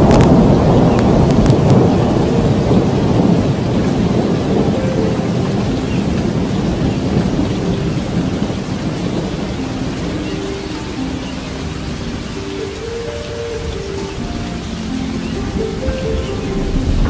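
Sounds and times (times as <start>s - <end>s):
steady rain: 0.0s - 17.0s
thunder rolling: 0.0s - 17.0s.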